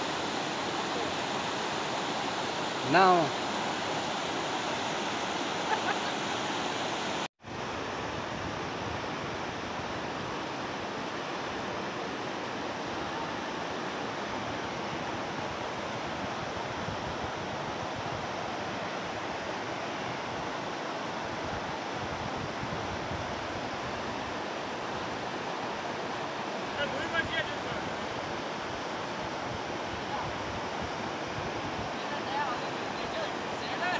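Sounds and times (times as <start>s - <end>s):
river water rushing over rocks: 0.0s - 33.9s.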